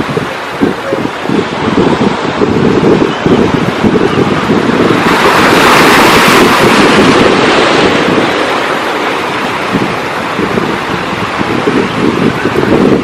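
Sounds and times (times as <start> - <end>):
wave breaking and washing in: 0.0 - 13.0
wind buffeting microphone: 0.0 - 13.0.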